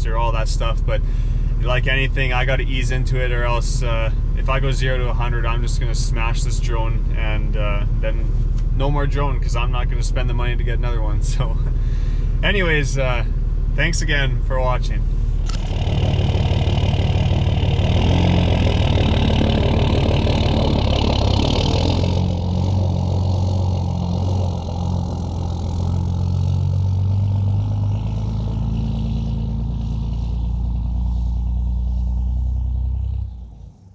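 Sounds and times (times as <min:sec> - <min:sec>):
diesel pickup truck engine: 0:00.0 - 0:33.9.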